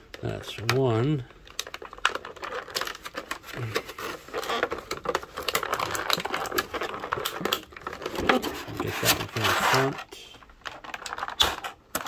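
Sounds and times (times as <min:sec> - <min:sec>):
plastic crinkling and clicking: 0:00.0 - 0:12.0.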